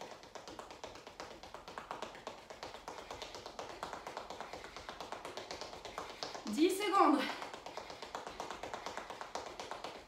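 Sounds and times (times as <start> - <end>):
sneakers tapping on tiled floor: 0.0 - 10.0.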